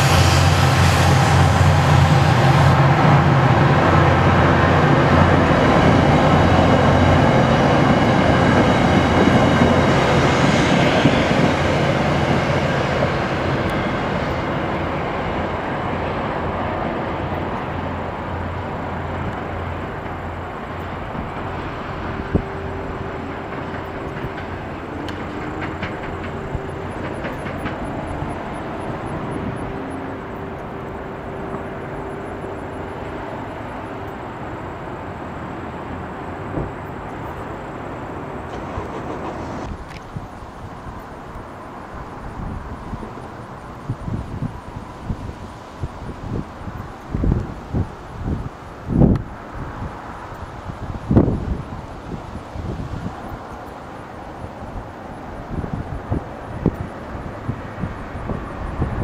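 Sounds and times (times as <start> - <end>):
train cars rolling on rails: 0.0 - 59.0.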